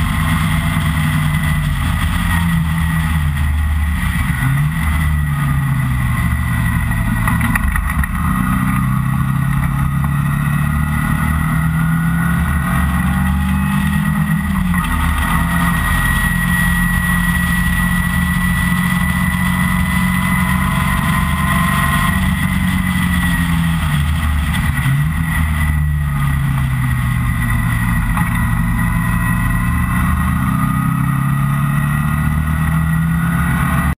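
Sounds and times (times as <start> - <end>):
road and wind noise: 0.0 - 33.9
sports car engine revving: 0.0 - 33.9.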